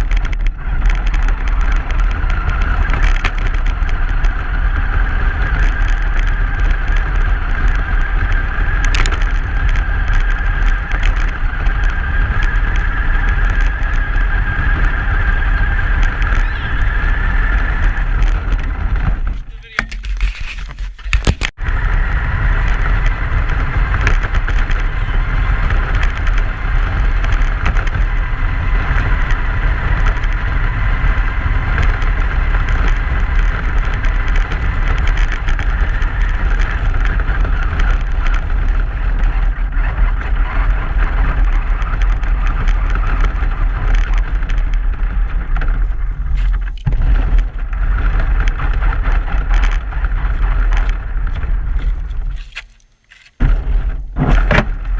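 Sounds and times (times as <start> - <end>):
truck engine and road rumble: 0.0 - 54.9.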